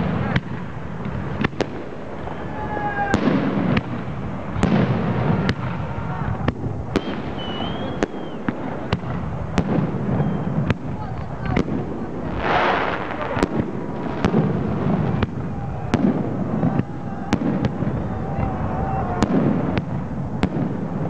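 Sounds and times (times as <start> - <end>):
fireworks bangs: 0.0 - 21.0
whistling fireworks: 0.0 - 21.0.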